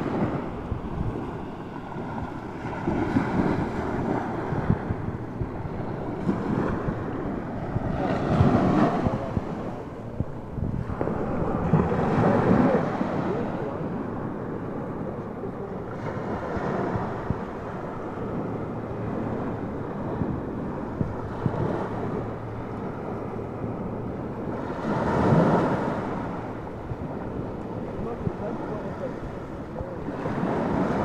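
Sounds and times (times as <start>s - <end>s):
small waves breaking on beach: 0.0s - 31.0s
wind buffeting microphone: 0.0s - 31.0s.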